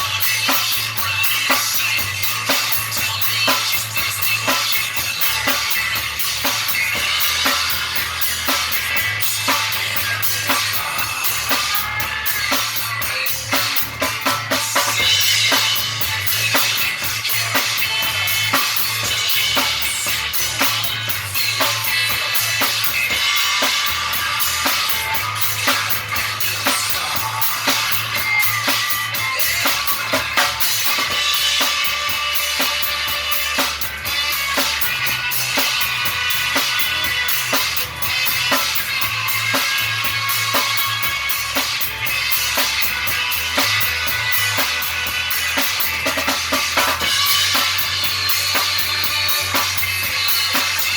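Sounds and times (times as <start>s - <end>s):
drum kit beat: 0.0s - 50.9s
rock band playing: 0.0s - 50.9s.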